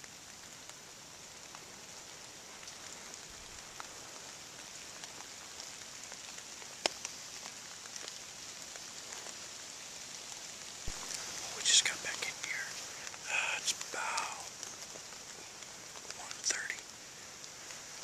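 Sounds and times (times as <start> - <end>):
rain falling on leaves: 0.0 - 18.0.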